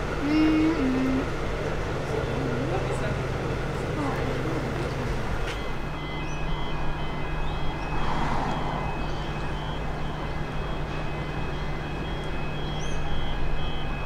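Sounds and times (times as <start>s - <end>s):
electric train humming and rumbling: 0.0s - 14.0s.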